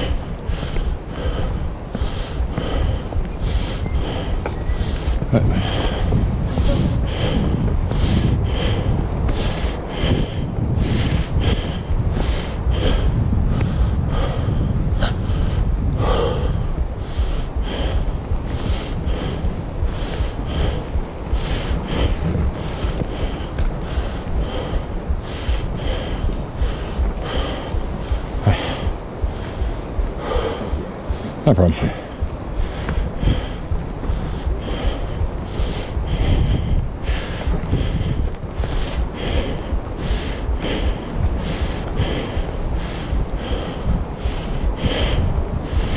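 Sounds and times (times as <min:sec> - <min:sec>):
low rumble: 0:00.0 - 0:45.9
person breathing hard: 0:00.0 - 0:45.9.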